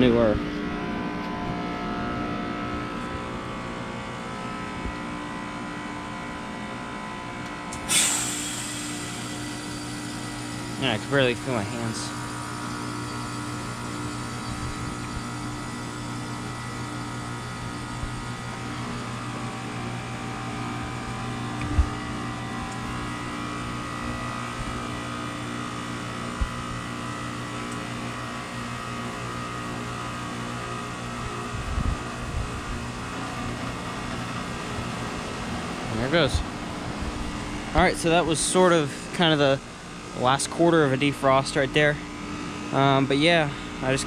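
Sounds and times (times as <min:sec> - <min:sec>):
heat pump compressor hum: 0:00.0 - 0:44.0.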